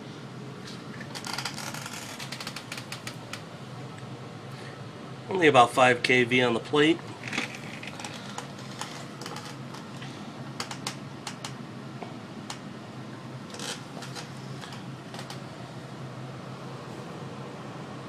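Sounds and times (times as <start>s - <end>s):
amplifier hum and fan noise: 0.0s - 18.0s.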